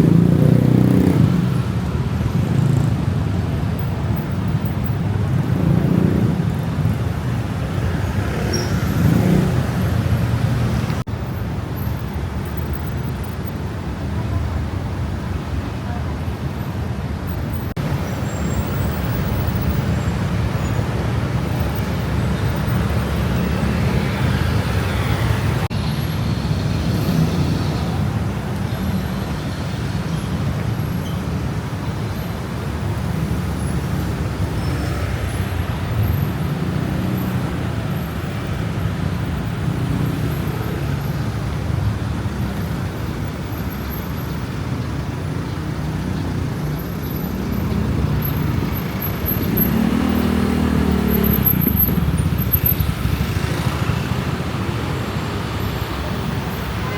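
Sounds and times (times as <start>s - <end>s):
passing cars and buses rumble: 0.0s - 56.9s.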